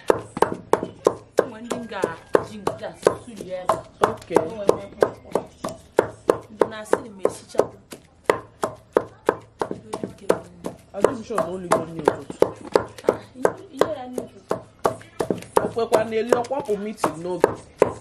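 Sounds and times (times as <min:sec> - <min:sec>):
pestle thudding in a mortar: 0:00.0 - 0:18.0.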